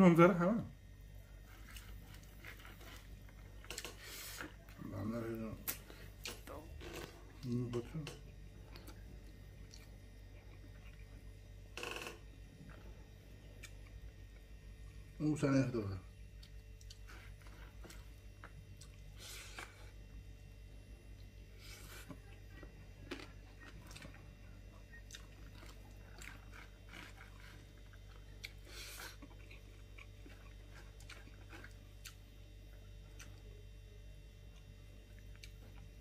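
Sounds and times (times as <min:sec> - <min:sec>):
low steady hum: 0:00.0 - 0:36.0
soft chewing and mouth clicks: 0:01.2 - 0:04.9, 0:05.6 - 0:11.4, 0:12.6 - 0:14.5, 0:16.2 - 0:20.2, 0:21.1 - 0:33.6, 0:34.4 - 0:36.0.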